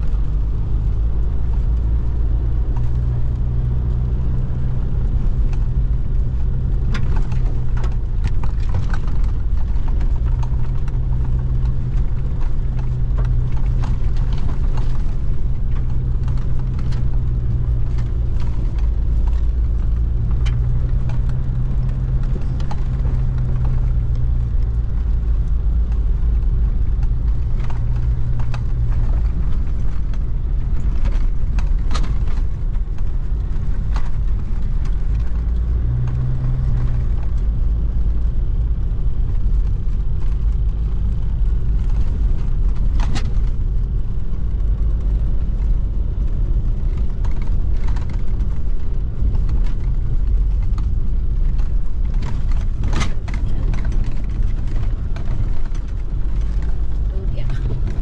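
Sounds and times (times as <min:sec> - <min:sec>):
tyres rumbling on rough road: 0:00.0 - 0:58.0
vehicle engine humming: 0:00.0 - 0:58.0
vehicle knocks and rattles: 0:00.0 - 0:58.0.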